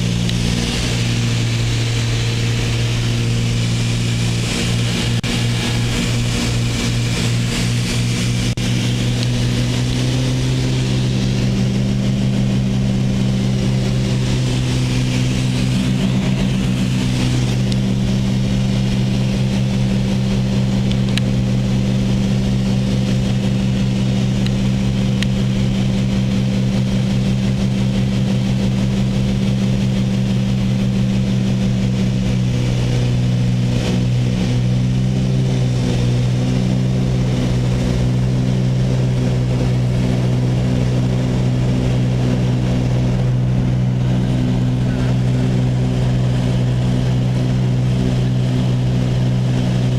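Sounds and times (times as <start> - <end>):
propeller engines droning: 0.0 - 49.9.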